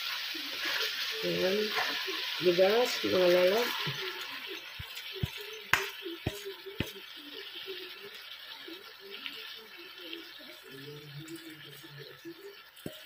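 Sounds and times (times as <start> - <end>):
faint sizzling: 0.0 - 13.0.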